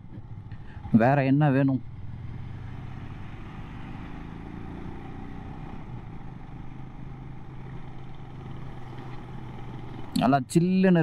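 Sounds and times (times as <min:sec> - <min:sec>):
motorcycle engine running: 0:00.0 - 0:10.5
road noise: 0:00.0 - 0:11.0.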